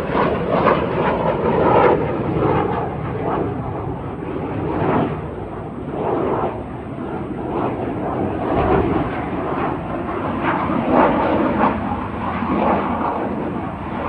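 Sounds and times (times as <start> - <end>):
jet flying overhead: 0.0 - 14.0.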